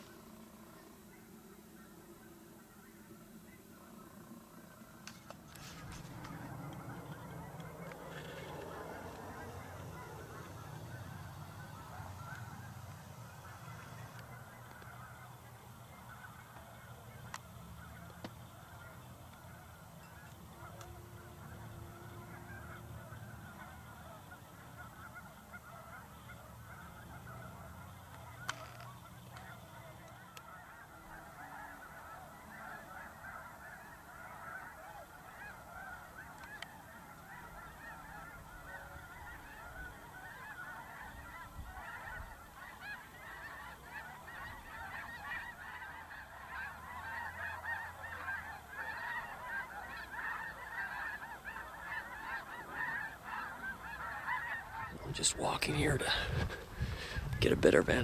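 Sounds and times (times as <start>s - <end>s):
geese honking: 0.0s - 58.0s.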